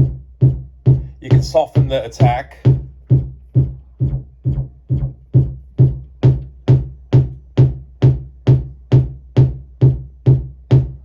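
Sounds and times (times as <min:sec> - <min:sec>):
kick drum thumps: 0:00.0 - 0:11.0.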